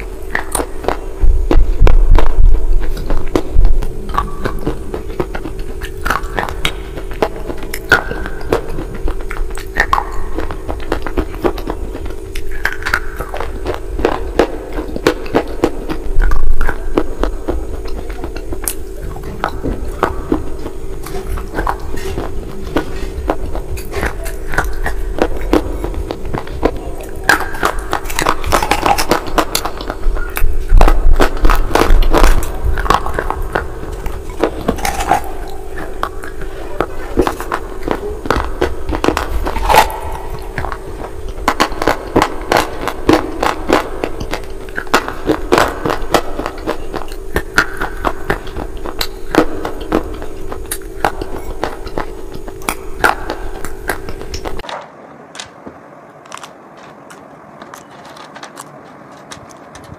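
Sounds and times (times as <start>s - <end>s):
gritty chewing crunches: 0.0s - 54.7s, 56.3s - 59.9s
steady low hum: 0.0s - 59.9s.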